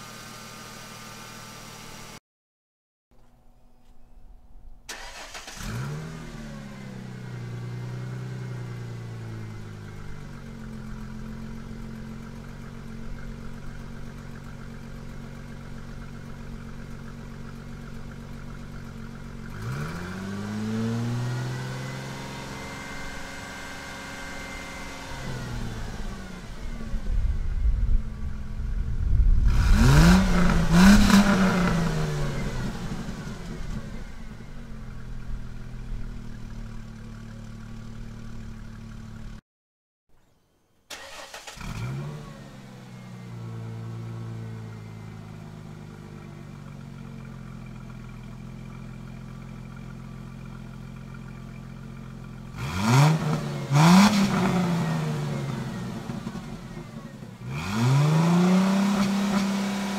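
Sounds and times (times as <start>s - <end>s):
car engine idling and revving: 0.0s - 2.2s, 4.9s - 39.4s, 40.9s - 59.9s.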